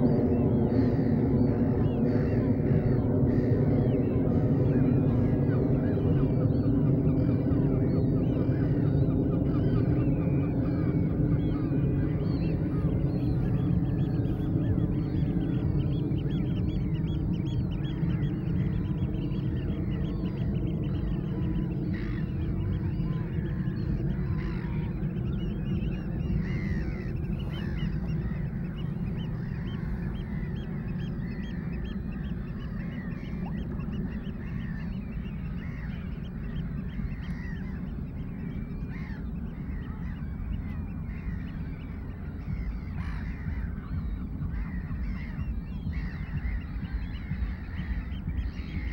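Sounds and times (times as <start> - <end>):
gulls calling: 0.0 - 48.9
low rumble: 0.0 - 48.9.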